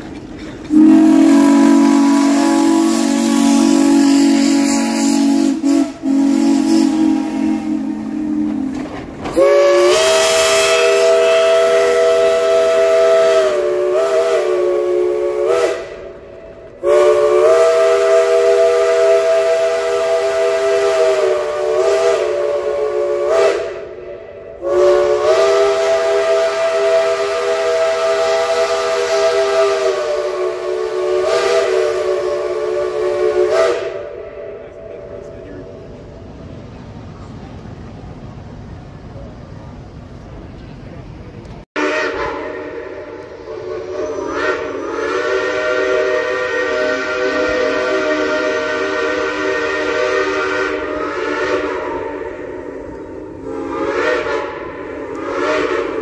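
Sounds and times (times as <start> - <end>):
steam hissing: 0.0 - 40.2, 41.8 - 56.0
steam whistle blasts: 0.7 - 35.4, 41.8 - 56.0.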